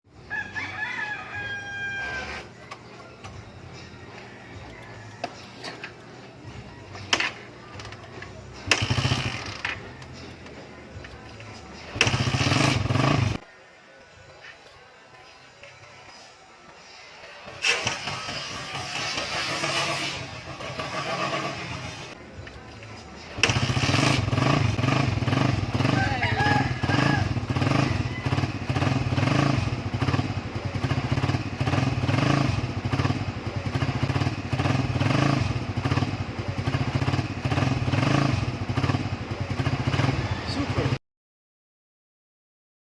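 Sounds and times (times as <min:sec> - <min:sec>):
motorcycle engine starting and idling: 0:02.3 - 0:13.4, 0:17.2 - 0:41.0.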